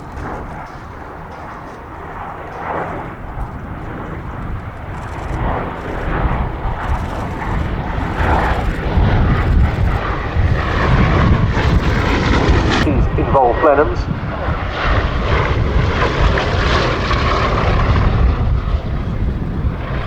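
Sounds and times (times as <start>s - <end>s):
aircraft radial engines in flight: 0.0s - 20.0s.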